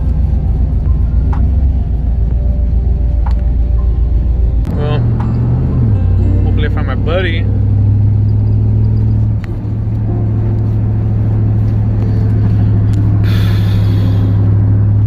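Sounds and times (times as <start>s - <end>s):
pickup truck exhaust drone: 0.0s - 15.0s.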